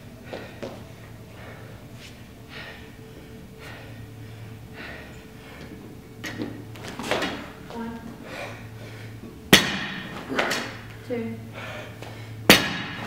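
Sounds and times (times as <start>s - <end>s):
man breathing heavily: 0.0s - 9.4s, 10.1s - 13.0s
faint steady hum: 0.0s - 13.0s.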